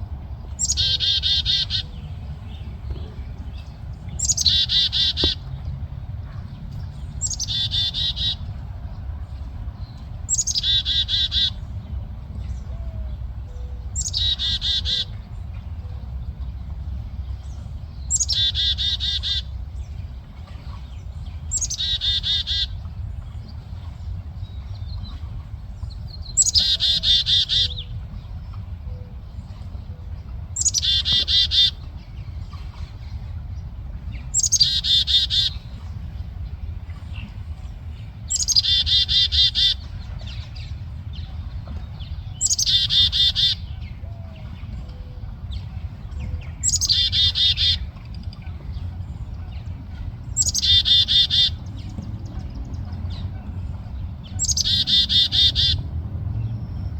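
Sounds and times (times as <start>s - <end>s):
songbird singing a trill: 0.4s - 5.5s, 6.6s - 8.5s, 9.8s - 55.8s.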